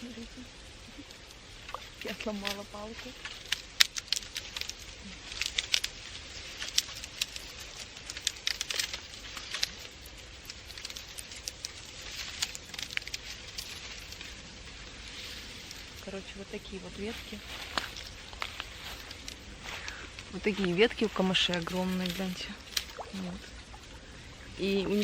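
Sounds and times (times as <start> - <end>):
dry reeds rustling and snapping: 0.6 - 25.0.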